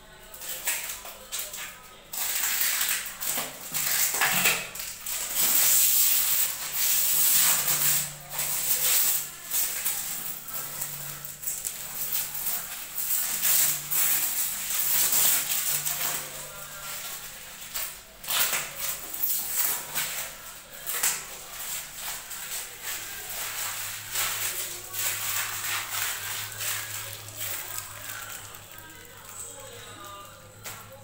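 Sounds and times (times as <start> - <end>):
plastic film crinkling: 0.3 - 31.0.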